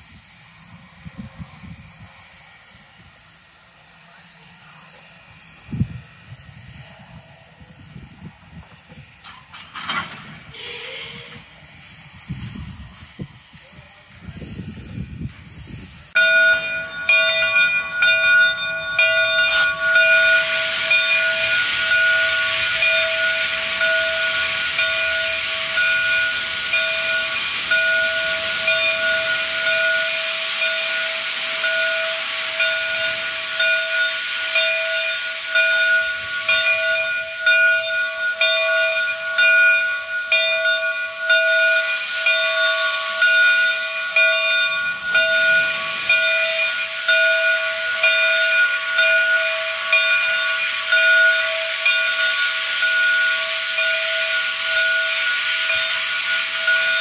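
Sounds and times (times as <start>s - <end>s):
steam hissing: 0.0s - 57.0s
high ringing tone: 0.7s - 57.0s.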